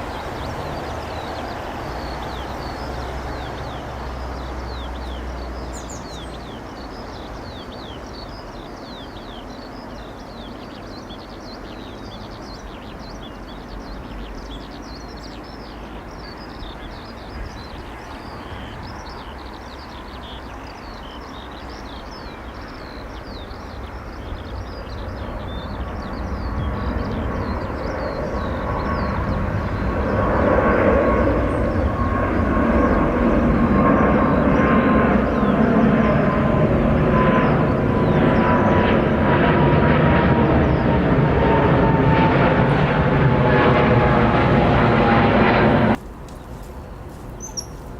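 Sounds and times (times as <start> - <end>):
birds chirping: 0.0 - 47.9
jet airliner engines roaring: 0.0 - 47.9.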